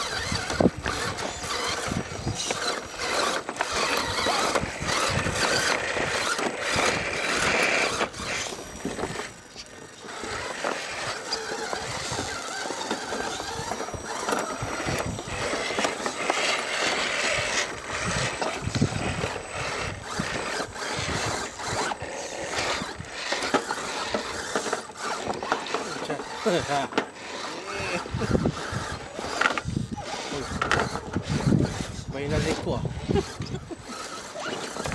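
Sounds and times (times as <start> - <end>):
electric motors whirring: 0.0 - 34.9
tyres scraping on stone: 0.0 - 34.9.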